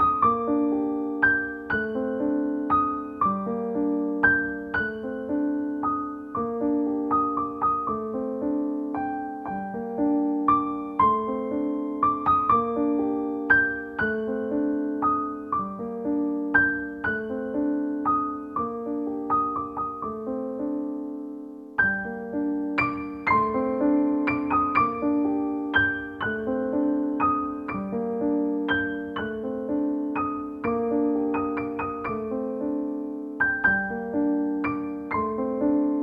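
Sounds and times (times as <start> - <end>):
gentle piano melody: 0.0 - 36.0.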